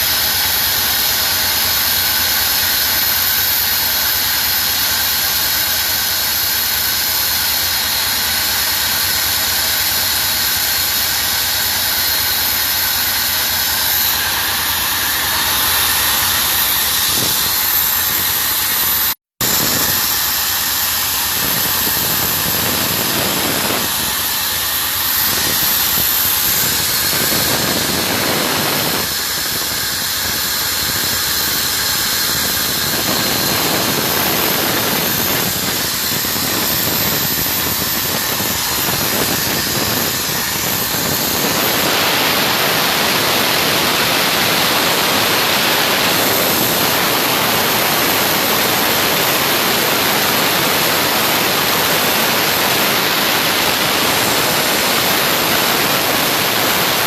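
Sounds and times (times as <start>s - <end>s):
machine noise with strong hiss: 0.0s - 57.0s.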